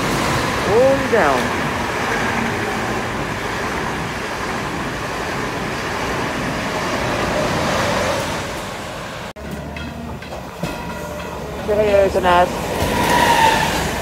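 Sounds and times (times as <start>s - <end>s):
train wheels rushing on rails: 0.0s - 14.0s.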